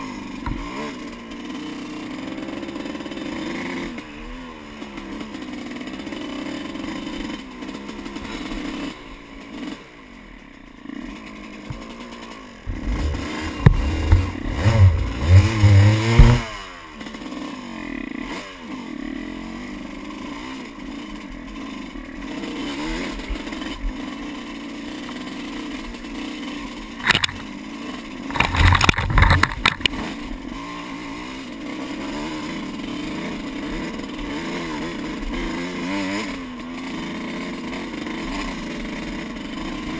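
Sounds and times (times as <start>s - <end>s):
two-stroke dirt bike engine revving: 0.0s - 39.9s.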